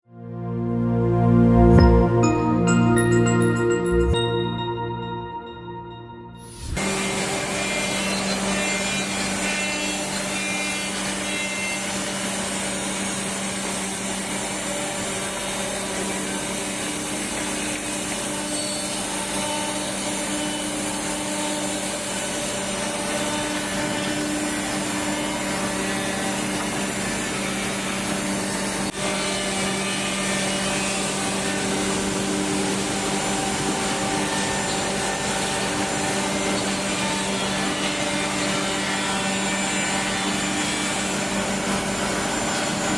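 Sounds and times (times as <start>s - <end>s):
router spindle motors whining: 6.6s - 42.9s.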